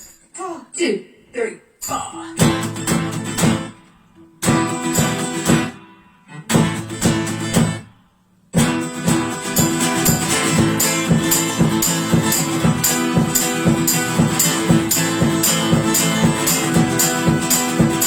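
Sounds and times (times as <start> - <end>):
acoustic guitar strumming: 1.8 - 18.0.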